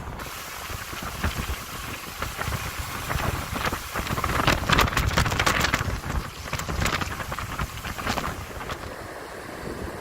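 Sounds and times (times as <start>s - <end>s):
heavy rain patter: 0.0s - 9.0s
wind buffeting microphone: 0.0s - 10.0s.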